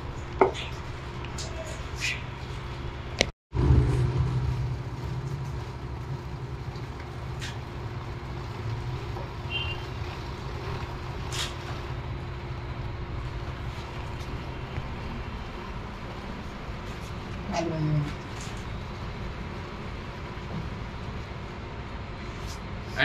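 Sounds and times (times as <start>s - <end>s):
low engine hum: 2.9s - 22.9s.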